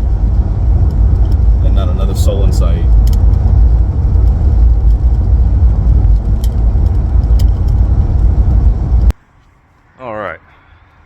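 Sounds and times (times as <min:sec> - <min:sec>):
light rattles and clicks: 0:00.0 - 0:09.1
vehicle road rumble: 0:00.0 - 0:10.0.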